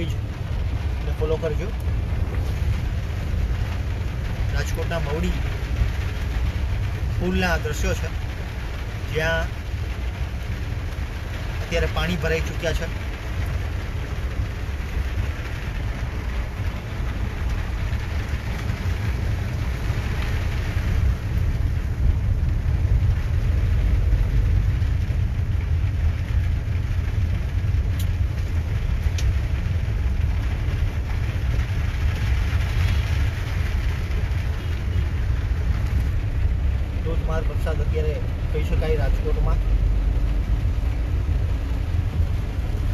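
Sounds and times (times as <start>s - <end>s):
car road and engine rumble: 0.0s - 42.9s
rain and spray hiss: 0.0s - 42.9s.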